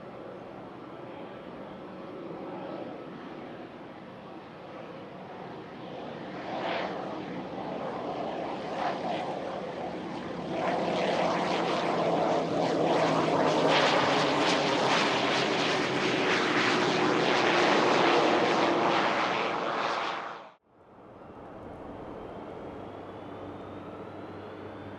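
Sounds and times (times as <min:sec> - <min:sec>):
jet engines roaring: 0:04.9 - 0:24.9.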